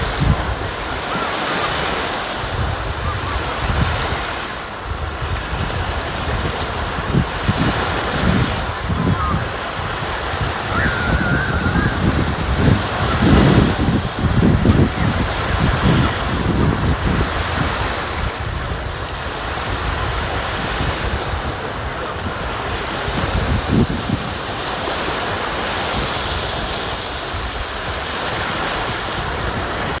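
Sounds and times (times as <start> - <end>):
sea waves washing on shore: 0.0 - 30.0
wind buffeting the microphone: 0.0 - 30.0.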